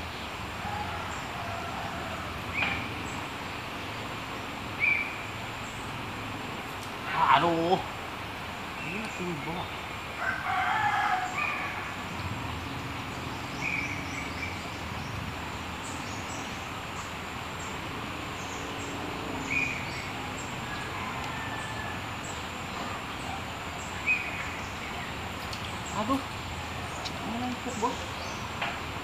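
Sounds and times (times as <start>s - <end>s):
birds calling: 0.0s - 29.0s
steady background hiss: 0.0s - 29.0s.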